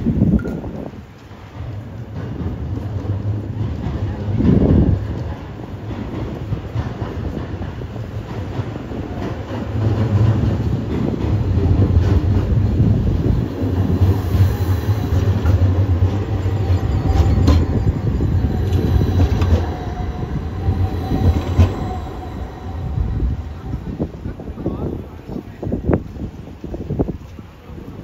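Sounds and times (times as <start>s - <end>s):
tram rumbling on rails: 0.0s - 28.0s.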